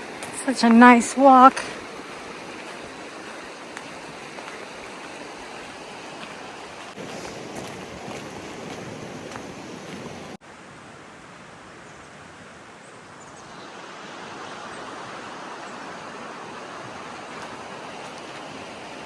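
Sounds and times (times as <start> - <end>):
running water rushing: 0.0 - 10.4, 13.6 - 19.0.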